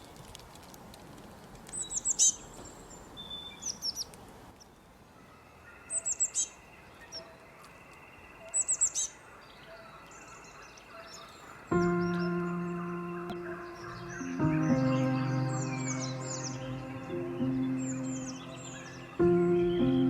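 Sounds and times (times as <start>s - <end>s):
songbird singing: 1.7s - 20.0s
bird chirps: 1.8s - 20.0s.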